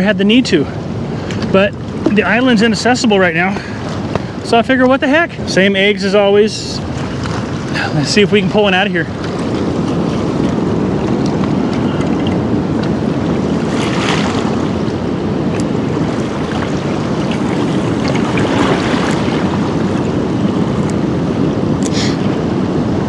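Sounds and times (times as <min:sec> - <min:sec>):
wind on microphone: 0:00.0 - 0:23.0
river water rushing: 0:00.7 - 0:23.0.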